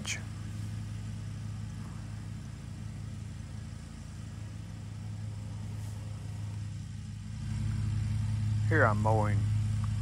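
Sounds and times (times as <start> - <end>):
distant mower engine humming: 0.0 - 10.0.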